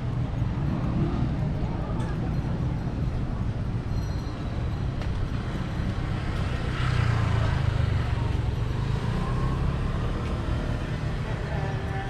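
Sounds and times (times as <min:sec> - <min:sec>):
low motor rumble of traffic: 0:00.0 - 0:12.0.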